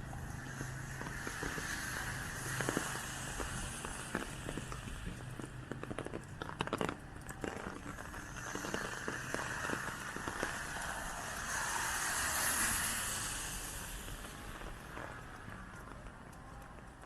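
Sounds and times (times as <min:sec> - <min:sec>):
vehicle tyres hissing on wet road: 0:00.0 - 0:17.0.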